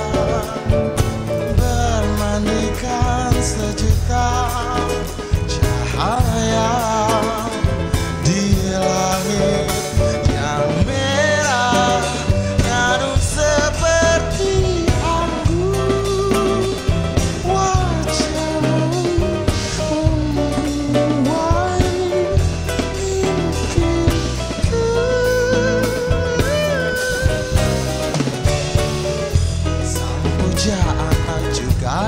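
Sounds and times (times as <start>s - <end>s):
drum kit: 0.0s - 32.0s
man singing: 0.0s - 32.0s
nylon-string guitar: 0.0s - 32.0s
upright bass: 0.0s - 32.0s.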